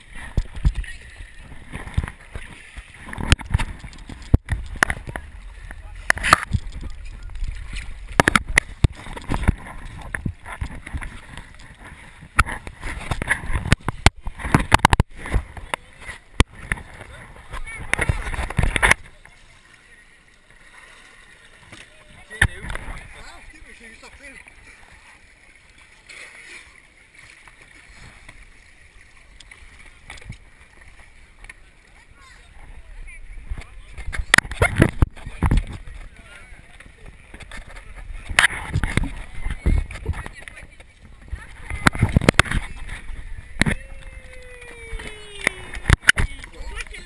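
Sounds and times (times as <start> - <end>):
water lapping against boat hull: 0.0 - 47.0.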